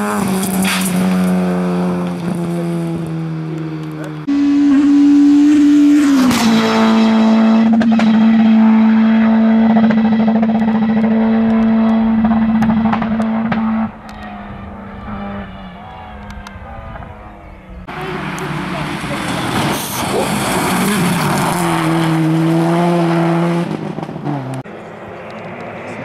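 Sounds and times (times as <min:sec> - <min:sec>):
rally car engine revving high: 0:00.0 - 0:26.0.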